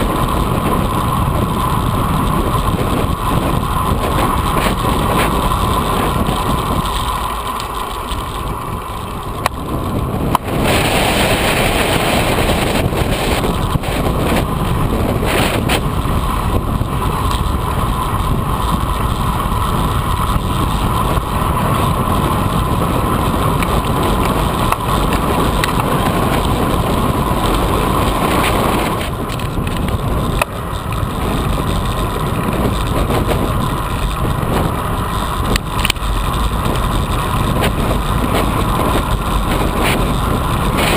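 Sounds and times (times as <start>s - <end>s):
bike tyres rolling: 0.0s - 40.9s
wind buffeting microphone: 0.0s - 40.9s.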